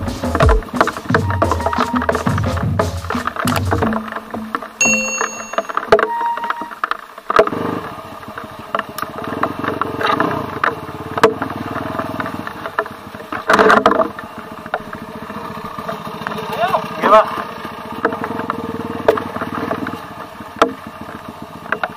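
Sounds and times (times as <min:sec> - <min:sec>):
dirt bike engine: 0:00.0 - 0:21.9
bike rattling over rough ground: 0:02.0 - 0:21.9.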